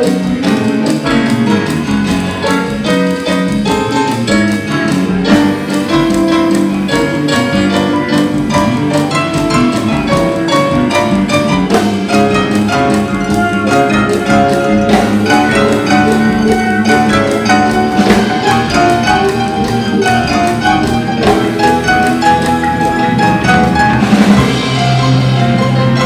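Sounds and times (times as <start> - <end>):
bass guitar: 0.0 - 26.0
drum kit: 0.0 - 26.0
electric guitar: 0.0 - 26.0
piano: 0.0 - 26.0.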